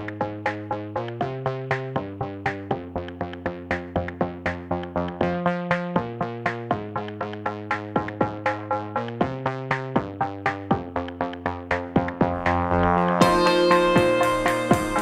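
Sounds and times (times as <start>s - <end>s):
electronic music with steady beat: 0.0s - 15.0s.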